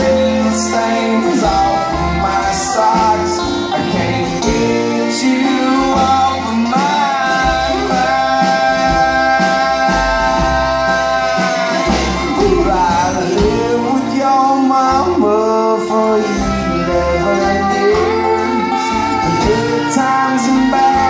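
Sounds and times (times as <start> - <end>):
bass guitar: 0.0 - 21.0
country band playing: 0.0 - 21.0
guitar: 0.0 - 21.0.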